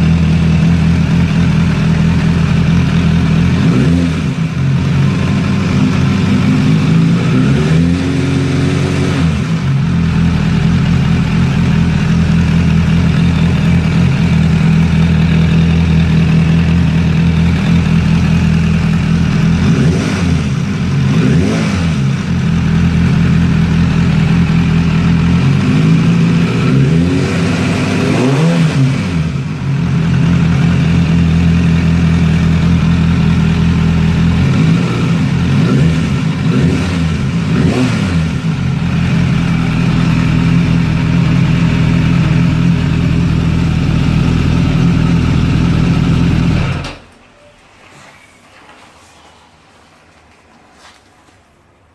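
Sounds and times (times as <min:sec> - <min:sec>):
engine vibration noise: 0:00.0 - 0:07.9, 0:09.3 - 0:27.6, 0:28.8 - 0:47.0
motorcycle engine idling and revving: 0:00.0 - 0:47.1
engine clatter: 0:00.0 - 0:47.2.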